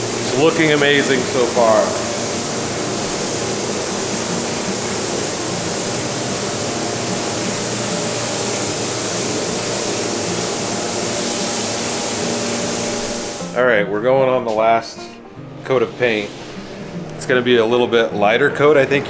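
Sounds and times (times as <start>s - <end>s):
spray gun hissing: 0.0s - 13.6s, 15.7s - 17.4s
faint ventilation hum: 0.0s - 19.0s.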